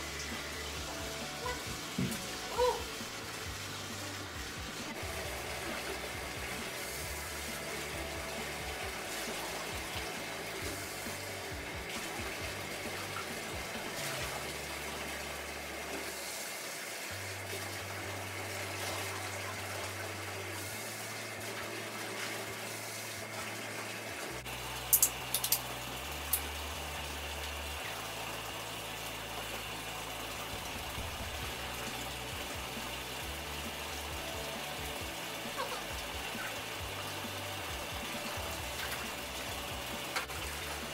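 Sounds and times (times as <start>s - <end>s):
water running from bathtub tap: 0.0s - 40.9s.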